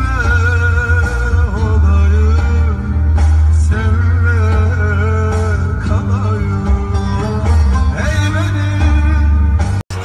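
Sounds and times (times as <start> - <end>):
instruments with strong bass: 0.0 - 10.0
person singing: 0.0 - 10.0.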